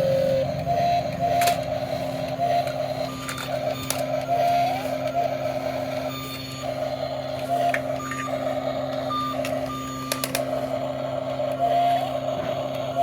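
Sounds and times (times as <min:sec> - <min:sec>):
reversing alarm beeping: 0:00.0 - 0:13.0
steady electric hum: 0:00.0 - 0:13.0.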